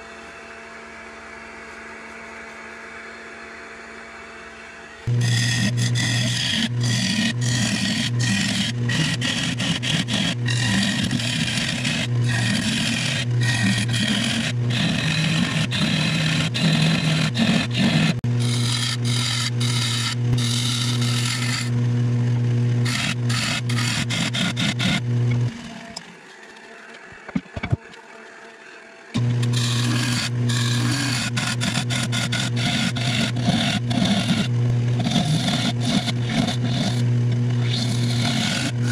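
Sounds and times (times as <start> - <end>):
wood lathe motor hum: 0.0 - 38.9
turning tool scraping wood: 5.1 - 21.8, 22.8 - 28.0, 29.2 - 38.9.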